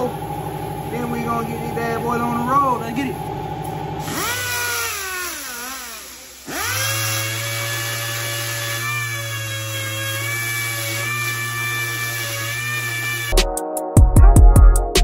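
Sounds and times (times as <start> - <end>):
air sander whining: 0.0 - 13.4.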